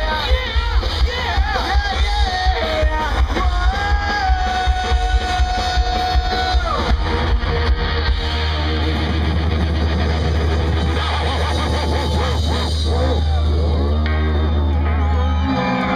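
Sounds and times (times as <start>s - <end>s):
drums: 0.0s - 15.9s
punk rock band playing: 0.0s - 15.9s.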